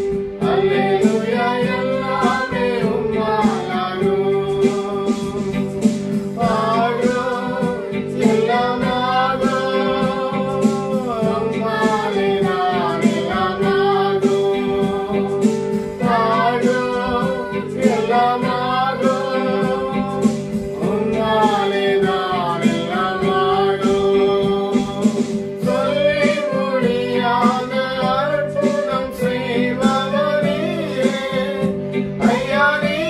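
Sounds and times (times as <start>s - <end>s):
family singing a worship song: 0.0s - 33.0s
guitar accompaniment: 0.0s - 33.0s.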